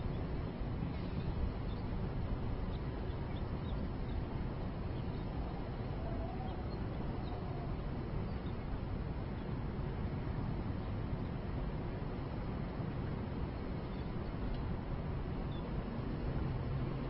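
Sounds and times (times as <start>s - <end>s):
low rumble of city noise: 0.0s - 17.0s.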